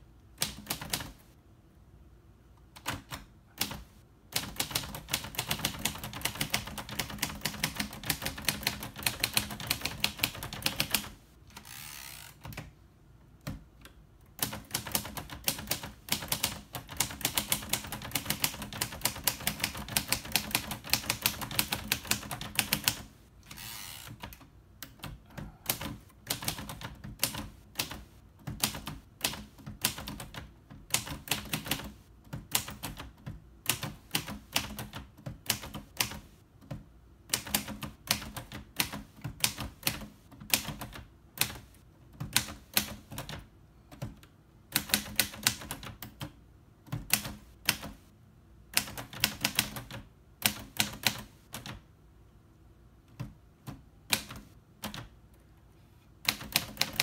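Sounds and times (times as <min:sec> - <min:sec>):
manual typewriter keystrokes: 0:00.4 - 0:01.3, 0:02.7 - 0:12.7, 0:13.4 - 0:48.1, 0:48.7 - 0:51.9, 0:53.1 - 0:55.1, 0:56.2 - 0:57.0.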